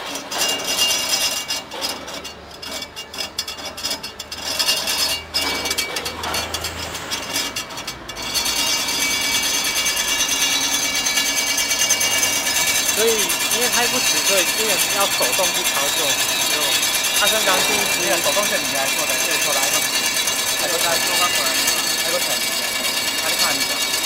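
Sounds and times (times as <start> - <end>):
metal knocking and rattling: 0.0 - 24.0
straightening machine rollers running: 0.0 - 24.0.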